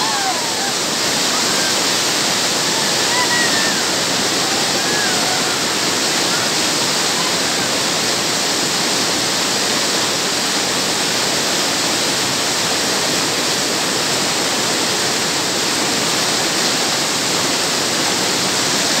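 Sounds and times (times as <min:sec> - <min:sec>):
river rapids rushing over boulders: 0:00.0 - 0:19.0.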